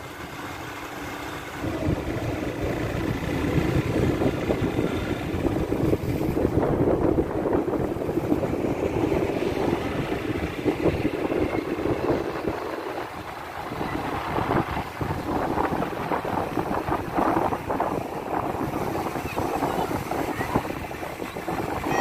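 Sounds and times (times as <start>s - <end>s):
road traffic rumble: 0.0s - 22.0s
wind buffeting microphone: 1.6s - 22.0s.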